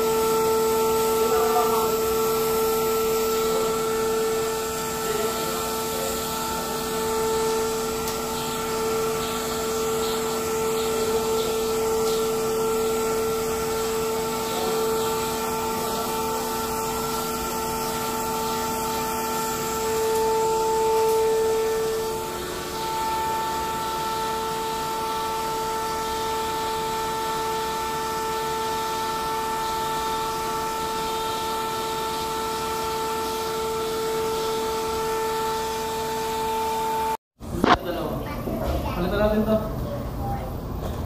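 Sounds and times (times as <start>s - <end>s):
vacuum cleaner whining: 0.0s - 39.7s.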